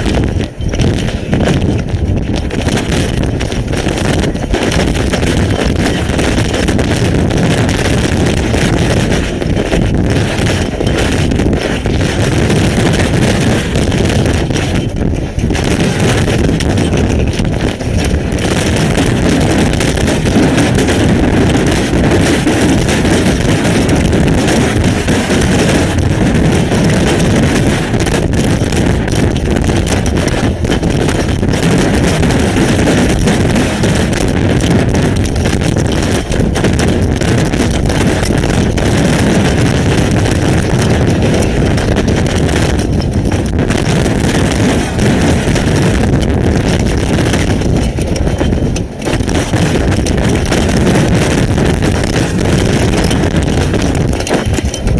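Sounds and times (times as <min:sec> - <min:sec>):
storm wind buffeting microphone: 0:00.0 - 0:54.9.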